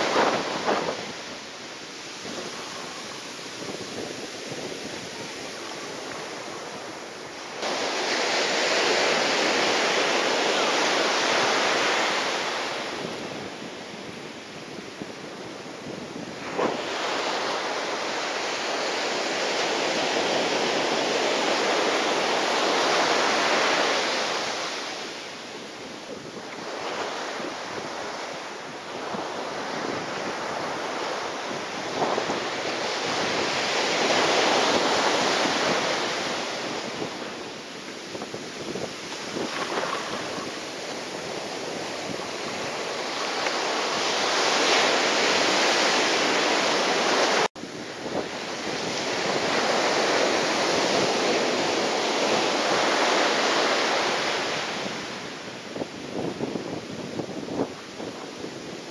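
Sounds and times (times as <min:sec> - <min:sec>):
strong wind: 0:00.0 - 0:58.9
surf rushing: 0:00.0 - 0:58.9
wind buffeting microphone: 0:00.0 - 0:58.9.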